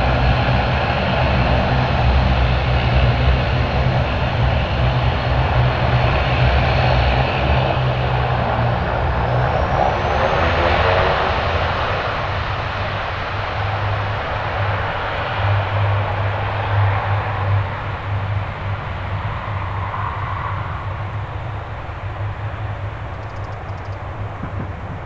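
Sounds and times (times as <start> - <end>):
airliner engines running: 0.0 - 25.0.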